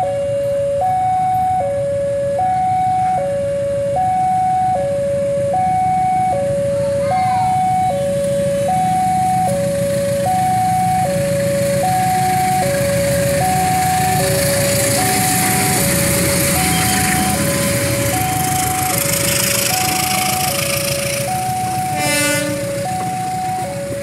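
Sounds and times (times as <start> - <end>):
level crossing two-tone alarm: 0.0 - 24.0.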